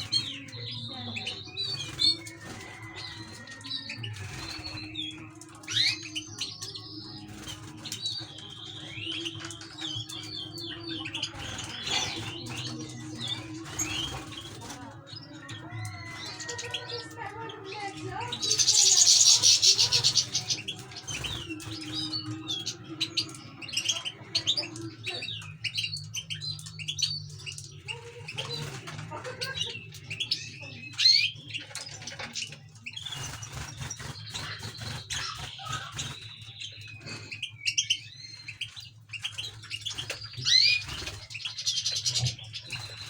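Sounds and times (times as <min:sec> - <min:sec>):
birds chirping and twittering: 0:00.0 - 0:43.0.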